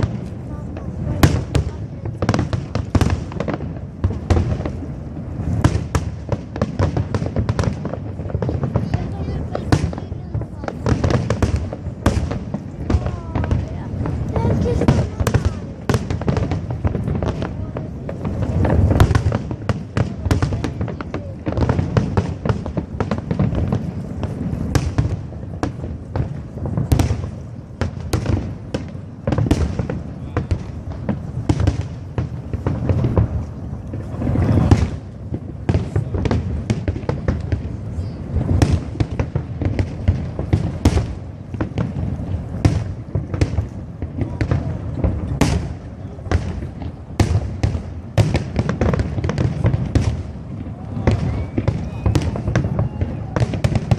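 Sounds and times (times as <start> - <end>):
fireworks bangs and crackles: 0.0 - 53.9
fireworks deep booms: 0.0 - 53.9.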